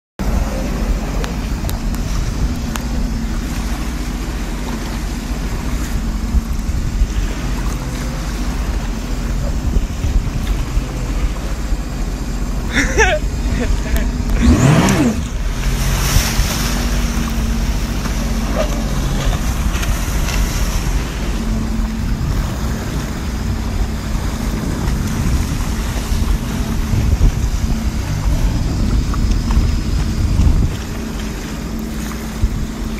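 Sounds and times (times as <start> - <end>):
jet ski engine: 0.2 - 32.9
water spray rushing: 0.2 - 32.9
wind buffeting microphone: 0.2 - 32.9.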